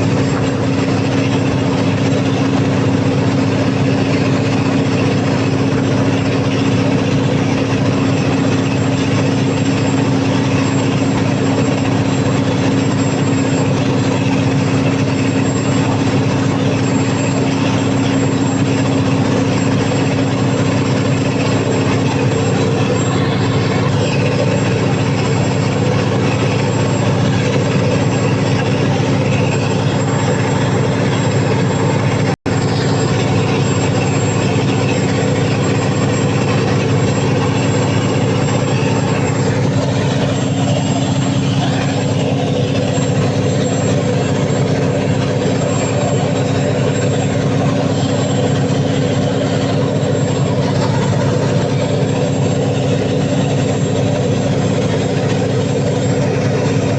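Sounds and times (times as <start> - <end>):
diesel generator engine running: 0.0 - 56.9.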